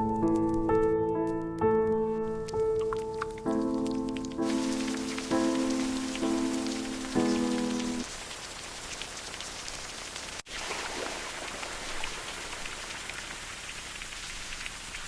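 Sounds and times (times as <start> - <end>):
steady rain: 2.5 - 15.0.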